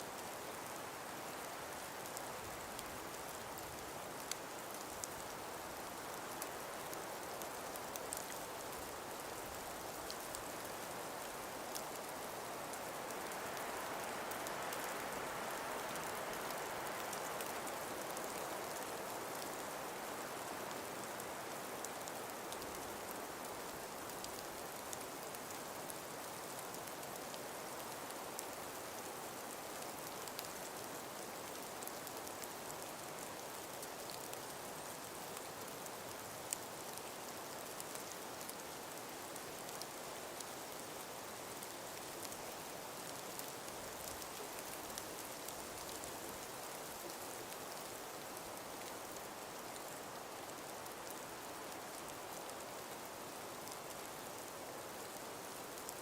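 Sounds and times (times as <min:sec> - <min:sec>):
wind through trees: 0:00.0 - 0:56.0
faint ticks: 0:01.4 - 0:56.0.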